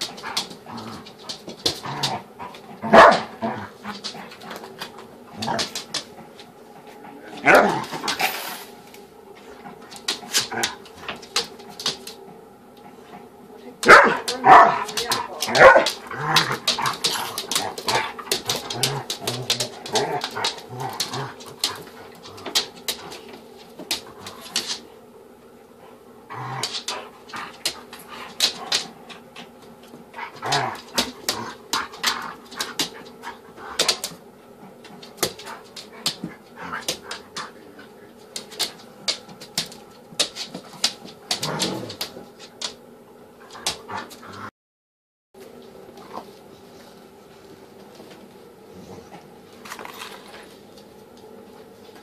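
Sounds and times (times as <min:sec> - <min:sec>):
paws scuffling on wooden floor: 0:00.0 - 0:13.3, 0:13.9 - 0:25.0, 0:25.8 - 0:42.8, 0:45.4 - 0:52.0.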